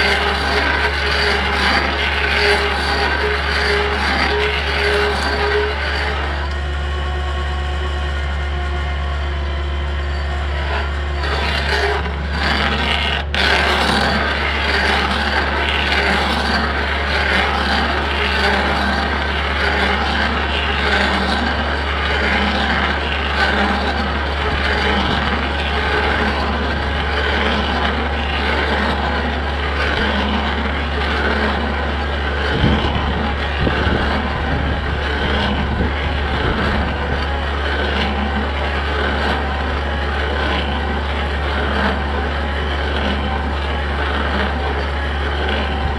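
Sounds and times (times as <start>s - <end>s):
diesel engine drone: 0.0s - 45.9s
drill grinding into tree stump: 0.0s - 45.9s.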